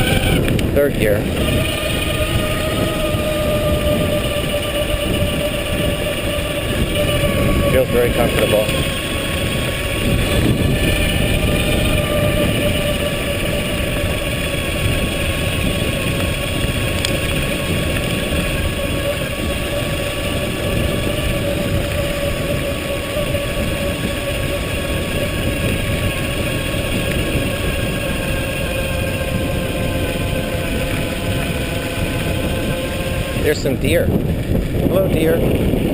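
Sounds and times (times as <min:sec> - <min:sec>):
electric bike motor whining: 0:00.0 - 0:35.9
wind rumbling on microphone: 0:00.0 - 0:35.9.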